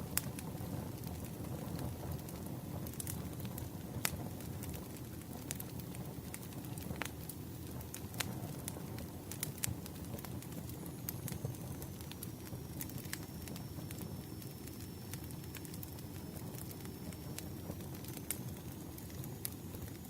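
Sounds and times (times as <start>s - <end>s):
fire crackling: 0.0s - 20.0s
low rumble of flames: 0.0s - 20.0s.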